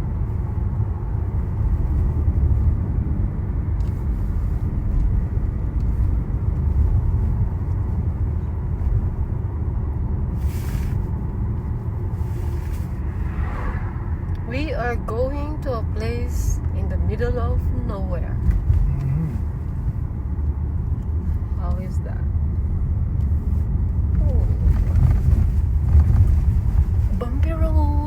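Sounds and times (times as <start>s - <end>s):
car tyres and engine rumble: 0.0s - 28.0s.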